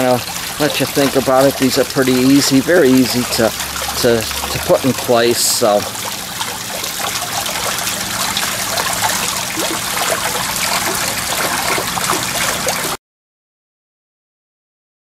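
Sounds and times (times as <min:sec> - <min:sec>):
water trickling down rain chain: 0:00.0 - 0:13.0.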